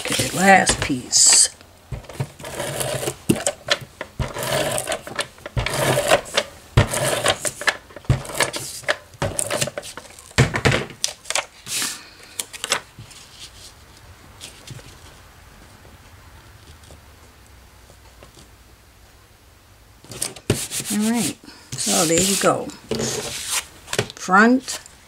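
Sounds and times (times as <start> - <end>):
cardstock rustling on tabletop: 0.0 - 15.8, 20.1 - 24.9.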